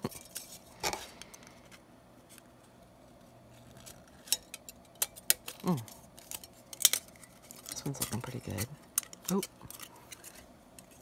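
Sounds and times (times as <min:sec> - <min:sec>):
aluminium sheet crinkling: 0:00.0 - 0:11.0.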